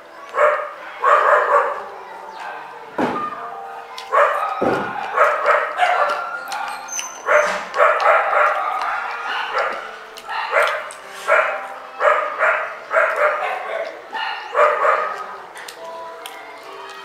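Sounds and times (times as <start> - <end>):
dog barking: 0.3 - 3.4, 4.1 - 15.3.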